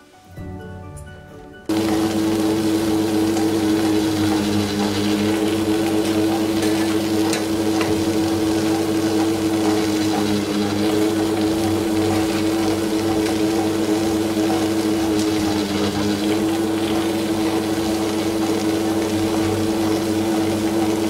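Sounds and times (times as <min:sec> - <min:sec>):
wet grinder motor humming: 0:01.7 - 0:21.0.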